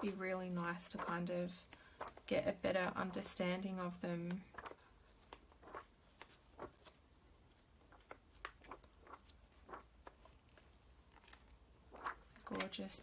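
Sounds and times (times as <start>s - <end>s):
magazine pages turning: 0.0s - 2.3s, 4.2s - 13.0s.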